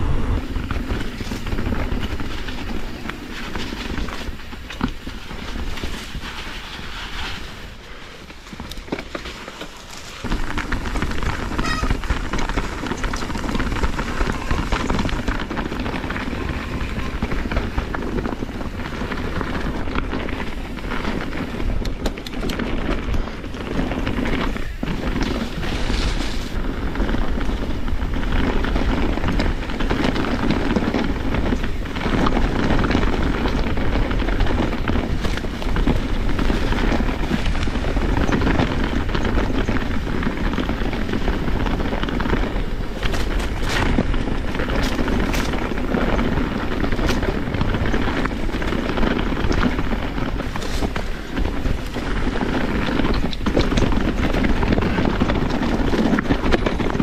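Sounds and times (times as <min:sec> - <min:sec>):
wind buffeting microphone: 0:00.0 - 0:57.0
bike knocking and rattling: 0:00.2 - 0:57.0.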